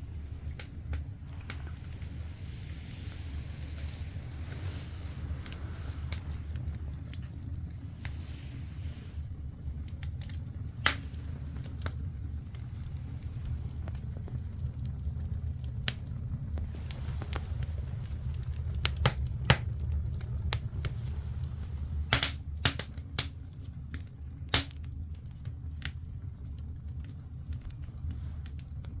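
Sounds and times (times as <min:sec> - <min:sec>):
firewood crackling and popping: 0:00.0 - 0:29.0
steady low fire rumble: 0:00.0 - 0:29.0.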